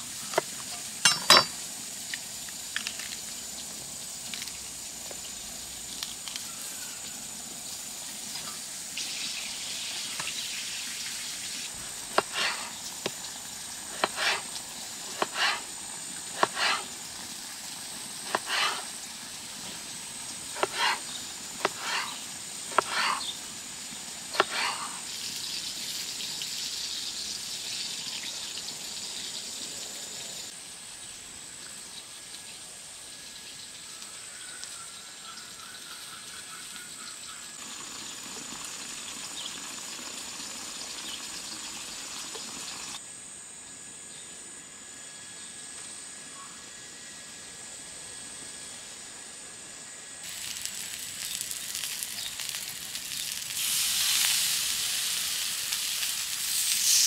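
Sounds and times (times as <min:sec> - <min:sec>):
faint high-pitched whine and hiss: 0:00.0 - 0:57.0.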